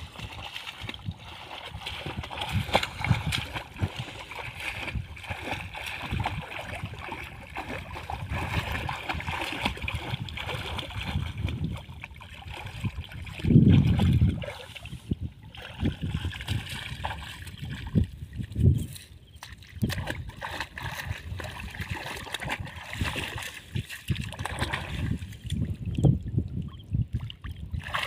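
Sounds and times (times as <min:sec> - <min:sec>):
rush of water: 0:00.0 - 0:18.7, 0:19.9 - 0:26.2
muddy water splashing: 0:00.0 - 0:28.0.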